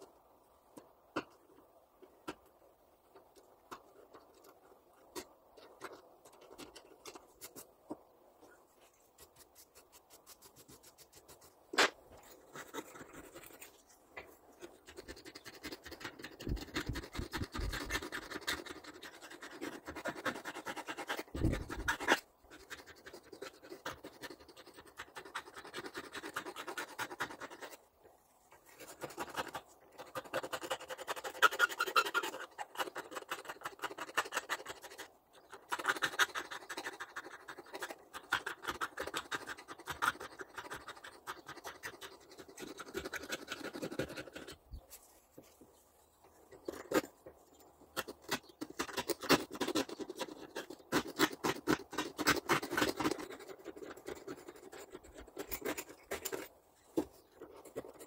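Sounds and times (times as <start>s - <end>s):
hand scraping small parts: 0.8s - 58.0s.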